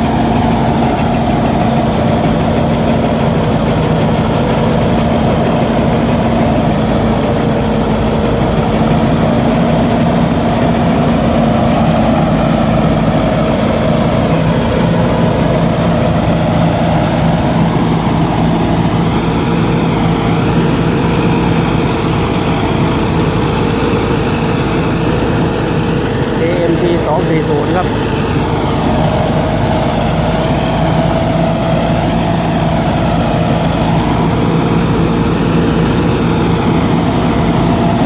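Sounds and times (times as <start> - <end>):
combine harvester engine drone: 0.0 - 38.0
machinery high whine: 0.0 - 38.0.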